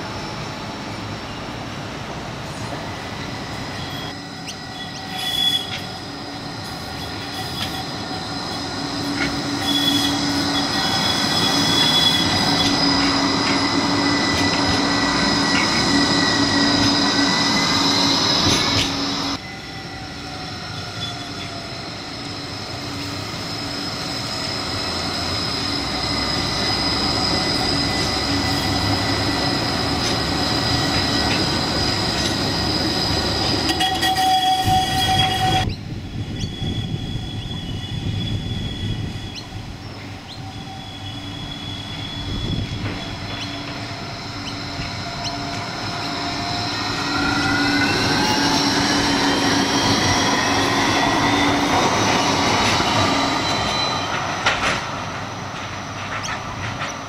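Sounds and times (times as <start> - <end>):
tram electric whine: 0.0 - 57.0
wheel-on-rail noise: 2.6 - 57.0.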